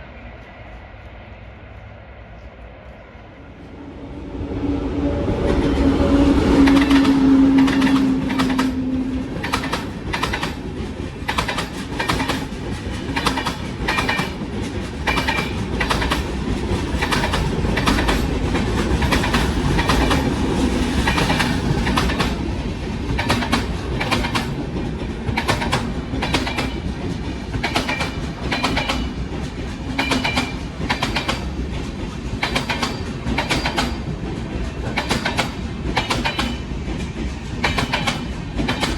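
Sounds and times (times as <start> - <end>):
train wheels clickety-clack: 4.4 - 38.9.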